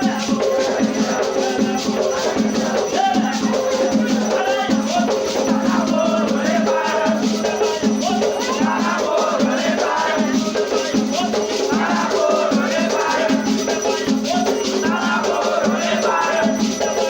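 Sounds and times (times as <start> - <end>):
group of voices chanting: 0.0 - 17.0
rattling shakers: 0.0 - 17.0
steady percussion: 0.0 - 17.0.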